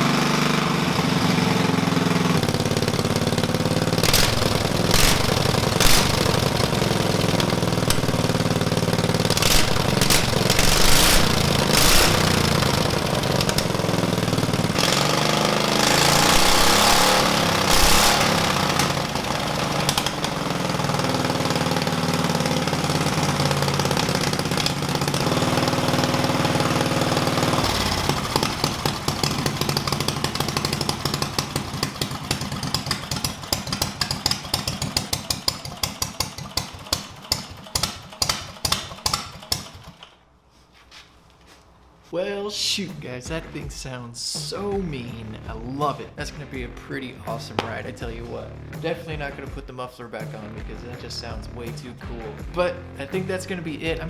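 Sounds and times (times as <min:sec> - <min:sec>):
choppy engine idle: 0:00.0 - 0:40.0, 0:50.2 - 0:54.0
motorcycle engine revving: 0:00.0 - 0:40.1, 0:44.5 - 0:49.6, 0:50.2 - 0:54.0.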